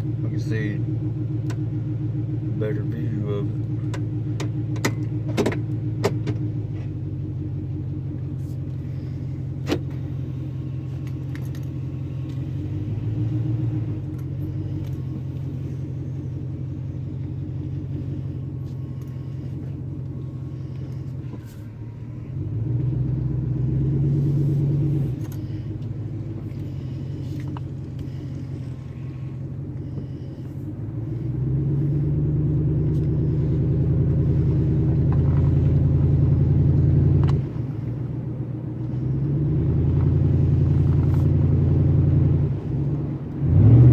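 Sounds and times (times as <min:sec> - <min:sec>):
truck engine exhaust: 0:00.0 - 0:43.9.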